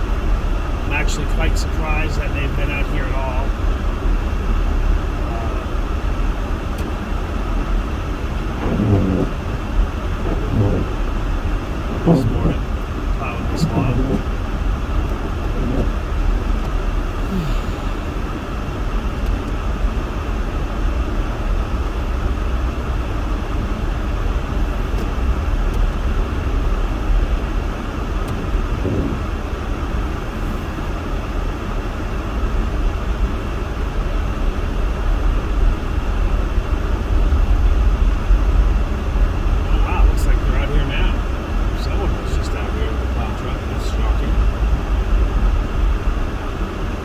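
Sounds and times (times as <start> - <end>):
van engine rumble and hiss: 0.0 - 47.0.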